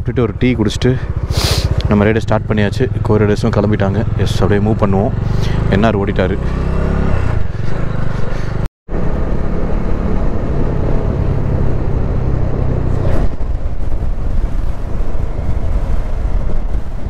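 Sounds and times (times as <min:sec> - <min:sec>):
wind and road noise: 0:00.0 - 0:17.0
motorcycle engine running: 0:00.2 - 0:17.0.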